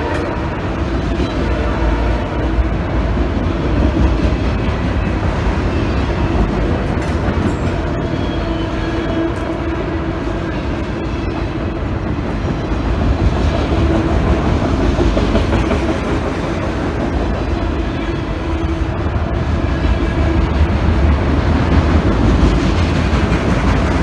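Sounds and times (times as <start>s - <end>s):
freight train wheels rattling: 0.0s - 24.0s.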